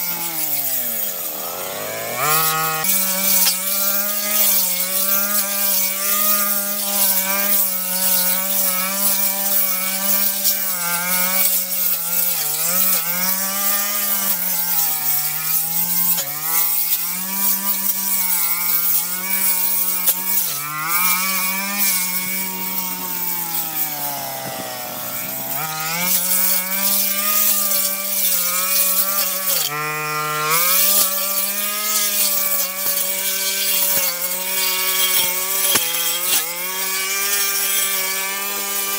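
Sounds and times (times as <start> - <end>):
brush cutter cutting grass: 0.0 - 38.9.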